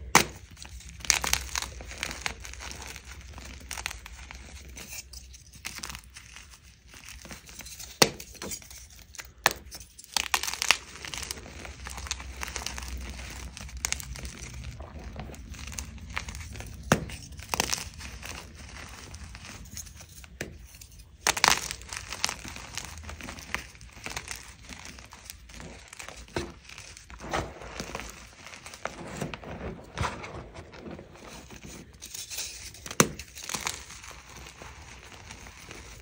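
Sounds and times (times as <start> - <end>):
chalk pieces snapping: 0.0 - 27.1, 31.6 - 36.0
chalk crunching and crumbling: 0.0 - 36.0.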